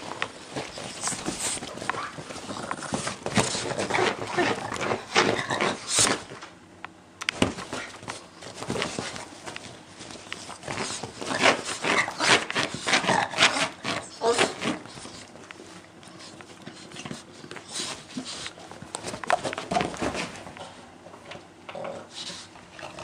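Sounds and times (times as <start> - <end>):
dogs scuffling on fabric: 0.0 - 6.4, 7.4 - 20.6
dogs' breathy play noises: 0.0 - 6.4, 7.5 - 21.0.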